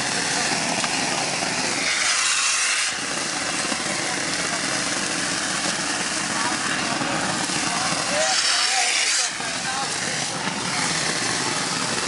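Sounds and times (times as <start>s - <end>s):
concrete spraying air rush: 0.0s - 12.0s.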